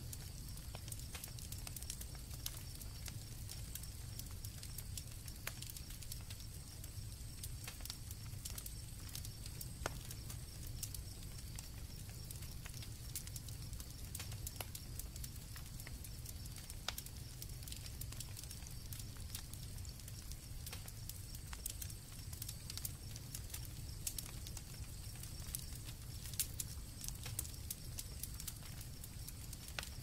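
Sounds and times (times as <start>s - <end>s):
campfire crackling and popping: 0.0s - 30.0s
crickets trilling: 0.0s - 30.0s.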